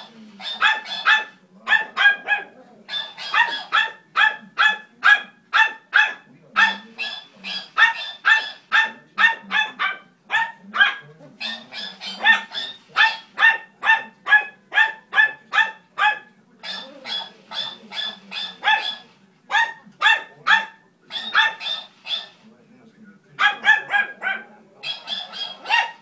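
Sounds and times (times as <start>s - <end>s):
small dog barking: 0.4s - 22.4s, 23.4s - 26.0s.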